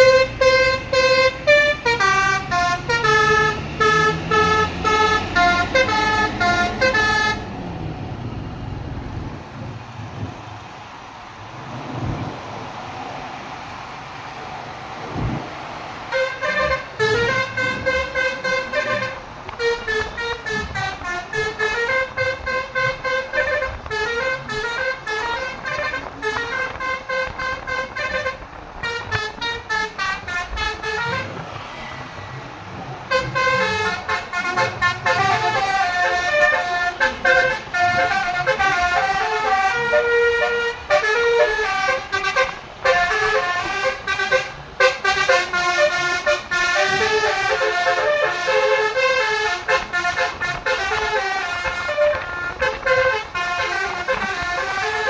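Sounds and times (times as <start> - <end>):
multi-tone vehicle horn melody: 0.0 - 7.6, 16.1 - 31.5, 33.1 - 55.0.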